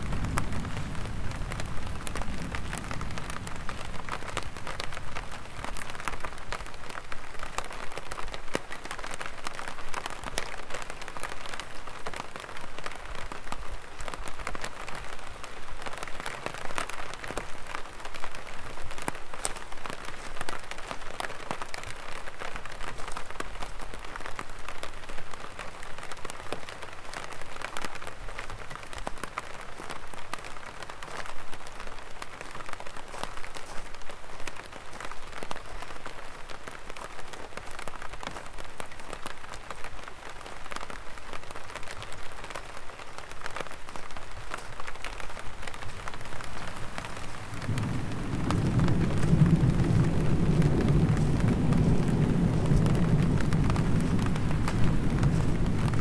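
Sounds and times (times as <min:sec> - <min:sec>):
rain pattering on an umbrella: 0:00.0 - 0:56.0.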